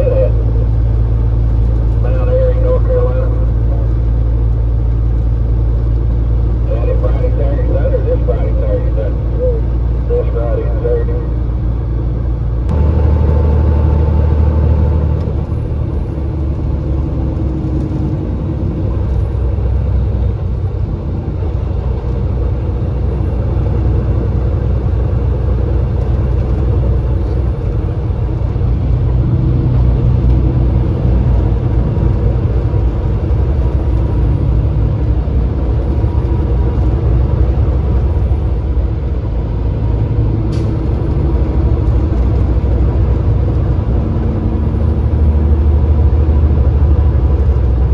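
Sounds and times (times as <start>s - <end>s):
road noise: 0.0s - 47.9s
truck engine rumbling: 0.0s - 47.9s.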